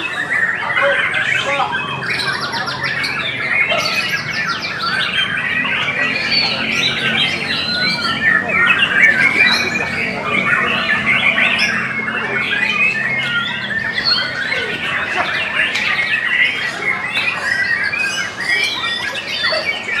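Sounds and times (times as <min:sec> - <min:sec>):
songbirds singing and chattering: 0:00.0 - 0:20.0.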